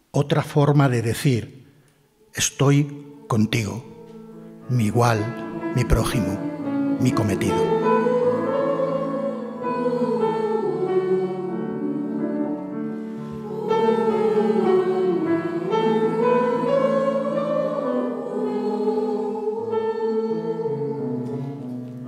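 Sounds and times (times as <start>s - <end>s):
choir singing: 2.3s - 22.0s.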